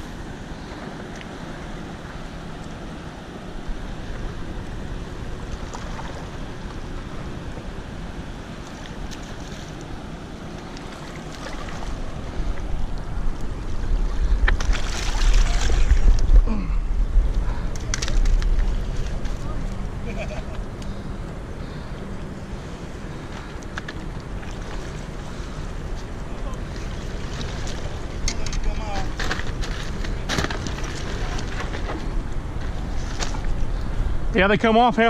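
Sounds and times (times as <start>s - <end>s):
rushing water: 0.0s - 35.0s
wind buffeting microphone: 0.0s - 35.0s.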